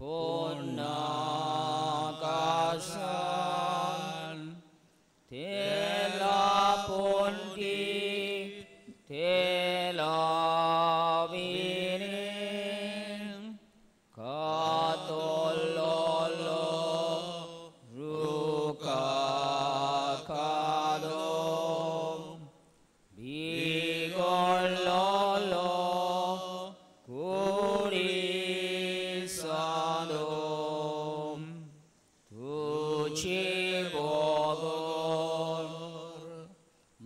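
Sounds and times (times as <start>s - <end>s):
person singing a slow hymn: 0.0s - 37.0s.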